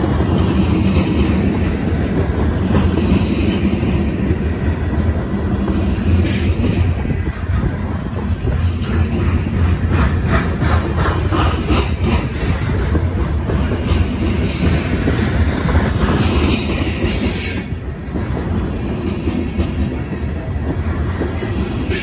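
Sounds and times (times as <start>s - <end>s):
rhythmic rail clacking: 0.0s - 22.0s
train wheels rumbling on track: 0.0s - 22.0s.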